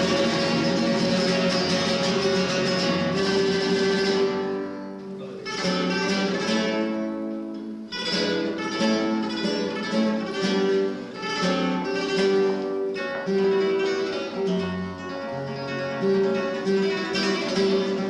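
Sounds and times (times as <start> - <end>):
flamenco guitar chords: 0.0 - 18.0.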